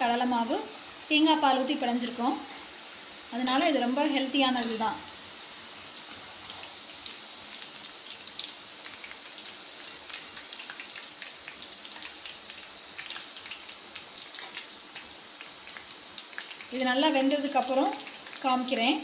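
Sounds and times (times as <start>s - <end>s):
sweets deep-frying in oil: 0.0s - 19.0s.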